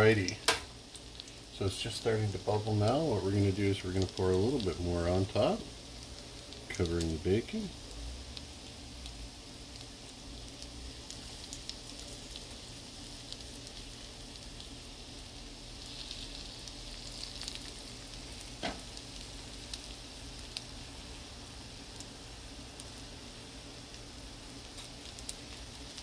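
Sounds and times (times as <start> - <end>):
butter sizzling in frying pan: 0.0 - 26.0.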